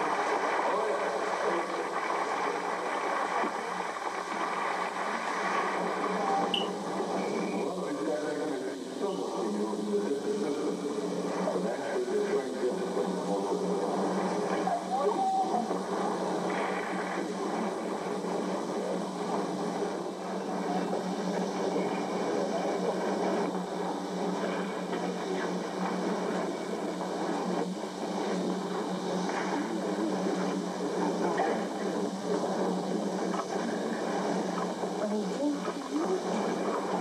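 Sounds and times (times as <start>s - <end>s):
continuous noisy din: 0.0s - 37.0s
steady low hum: 0.0s - 37.0s.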